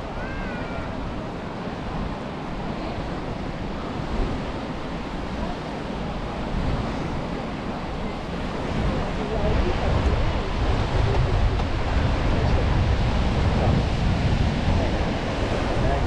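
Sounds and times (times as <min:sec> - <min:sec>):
sea surf washing on beach: 0:00.0 - 0:16.0
wind buffeting microphone: 0:00.0 - 0:16.0.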